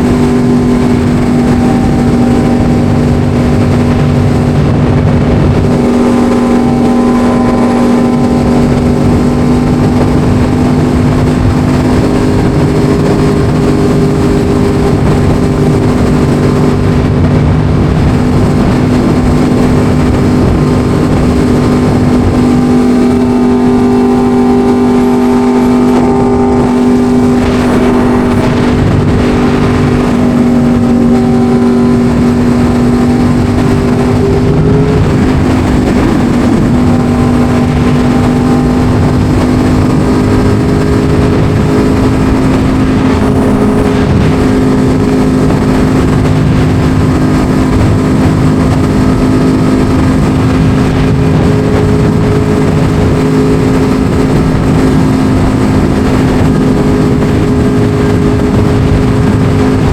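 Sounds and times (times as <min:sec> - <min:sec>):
motorcycle engine: 0:00.0 - 0:59.9
rushing wind: 0:00.0 - 0:59.9.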